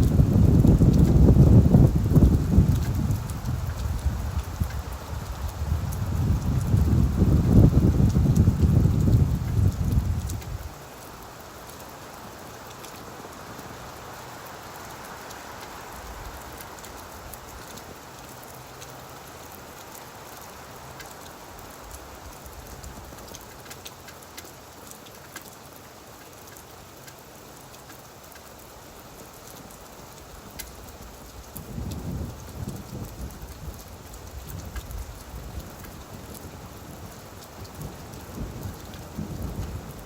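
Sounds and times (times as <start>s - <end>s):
rain falling on leaves: 0.0s - 40.0s.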